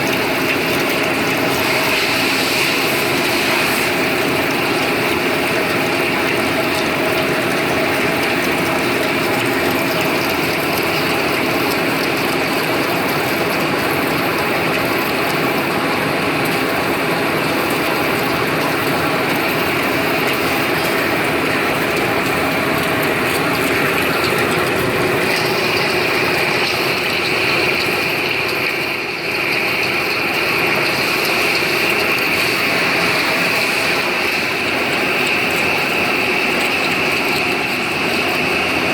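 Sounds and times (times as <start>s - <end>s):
metal lathe whirring: 0.0s - 38.9s.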